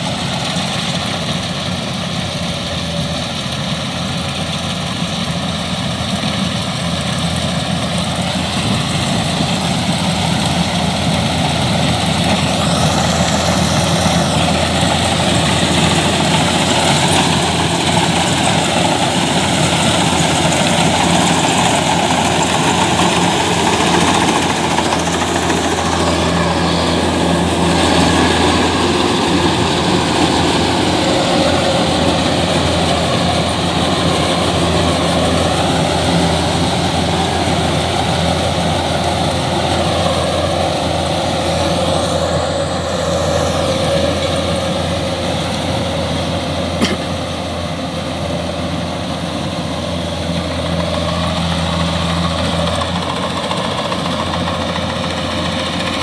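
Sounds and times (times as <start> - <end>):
combine harvester diesel engine drone: 0.0 - 56.0.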